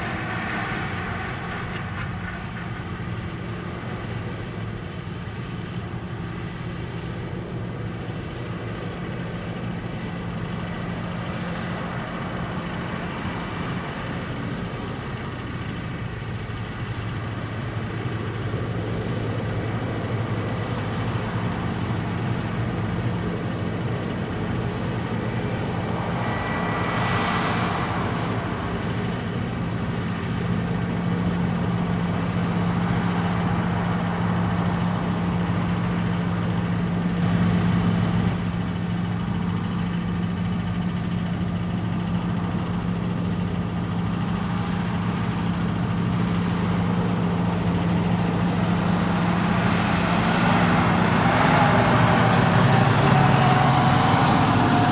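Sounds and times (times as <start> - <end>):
heavy machinery engine humming: 0.0 - 54.9.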